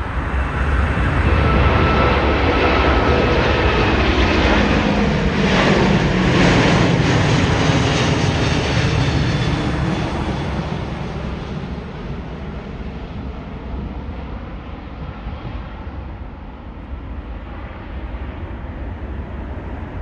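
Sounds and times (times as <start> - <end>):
jet airliner engines roaring: 0.0 - 20.0.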